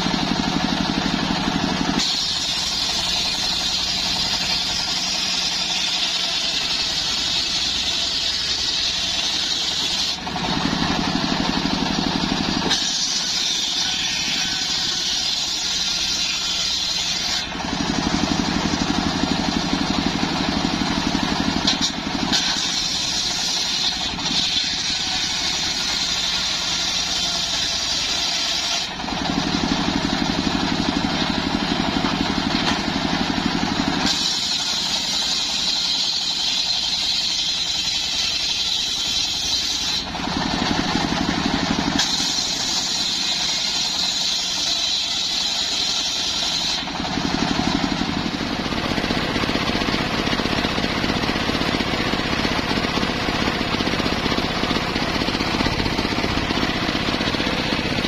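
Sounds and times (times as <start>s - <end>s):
motor running: 0.0s - 58.0s
saw blade ripping logs: 0.0s - 58.0s.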